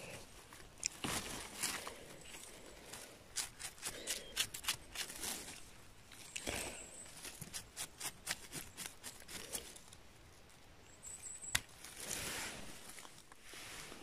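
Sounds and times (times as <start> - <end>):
leaves rustling: 0.0 - 10.6, 11.5 - 14.0.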